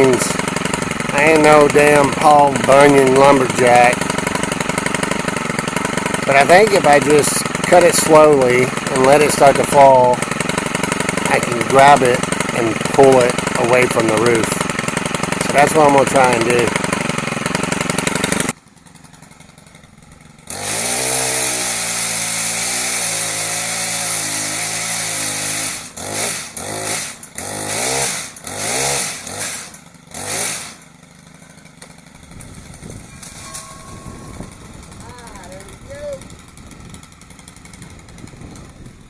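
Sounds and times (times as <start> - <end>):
chainsaw cutting tree limb: 0.0 - 39.0.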